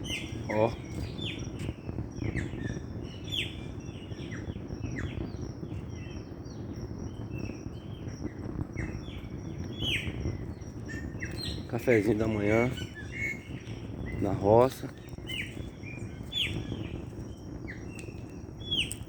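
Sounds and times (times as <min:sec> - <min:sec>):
low background rumble: 0:00.0 - 0:19.0
songbirds chirping: 0:00.0 - 0:19.0.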